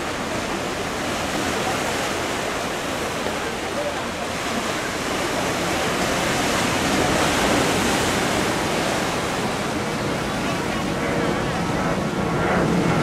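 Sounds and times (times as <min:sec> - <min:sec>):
sea surf washing against rocks: 0:00.0 - 0:13.0.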